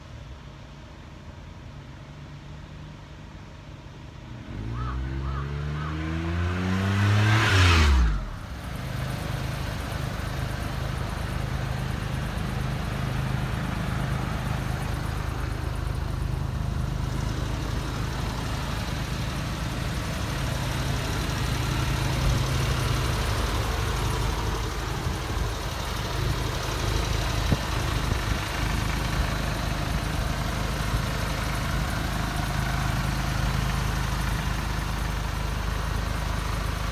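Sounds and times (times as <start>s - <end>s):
small engine revving and idling: 4.2s - 36.9s.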